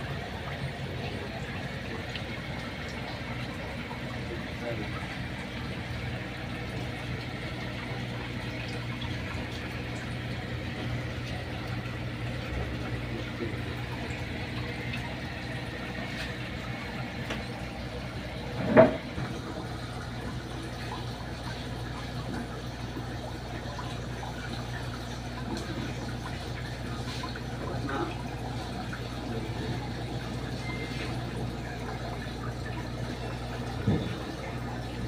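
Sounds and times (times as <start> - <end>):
aeration pump humming: 0.0 - 35.0
water pouring and splashing: 0.0 - 35.0.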